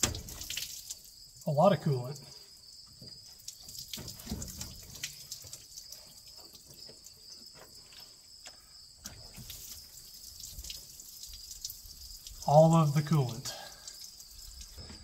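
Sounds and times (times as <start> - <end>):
coolant trickling and dripping: 0.0 - 15.0.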